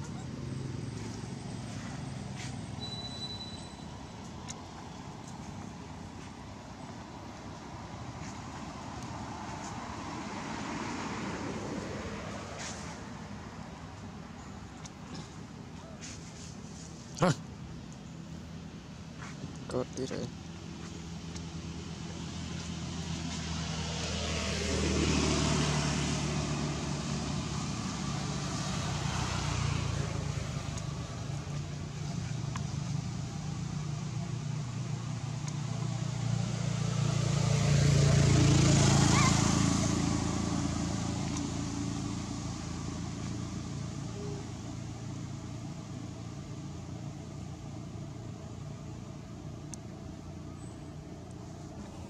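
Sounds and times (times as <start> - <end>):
steady engine hum: 0.0 - 52.0
vehicles driving past: 0.0 - 52.0.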